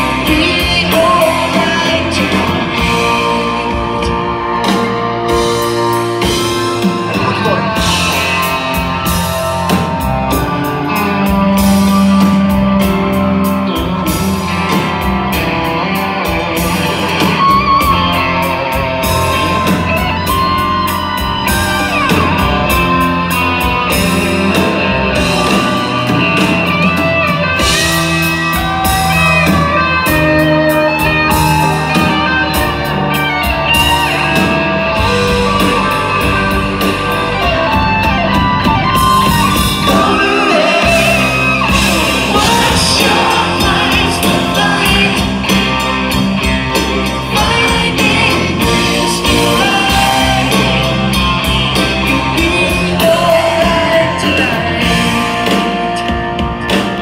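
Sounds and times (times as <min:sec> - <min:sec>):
person singing: 0:00.0 - 0:12.9, 0:23.6 - 0:57.0
electric guitar solo: 0:00.0 - 0:57.0
live rock band playing: 0:00.0 - 0:57.0.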